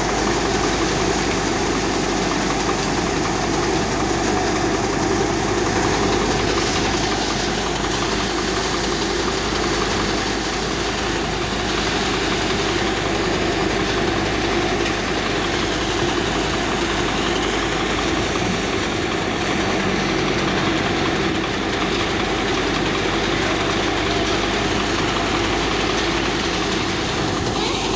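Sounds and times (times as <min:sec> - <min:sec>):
thresher machine droning: 0:00.0 - 0:27.9.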